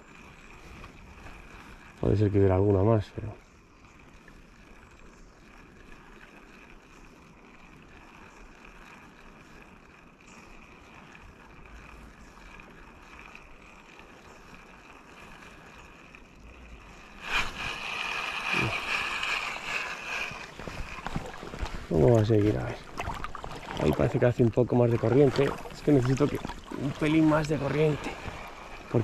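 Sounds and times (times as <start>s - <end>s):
river water running: 0.0s - 29.0s.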